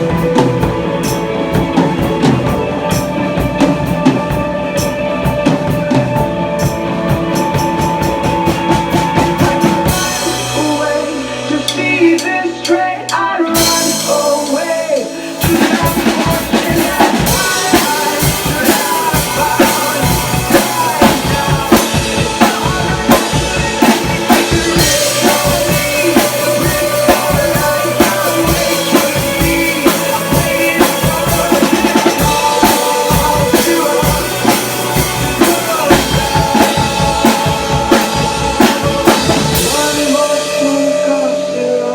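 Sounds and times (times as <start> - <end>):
drum kit playing: 0.0 - 41.9
recorded rock song: 0.0 - 41.9.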